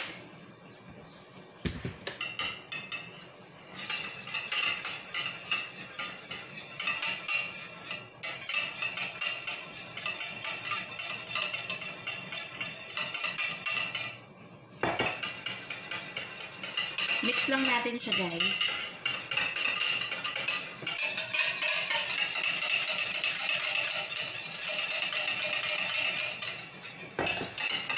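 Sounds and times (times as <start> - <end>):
whisk clicking against bowl: 3.7 - 14.2, 14.9 - 27.9.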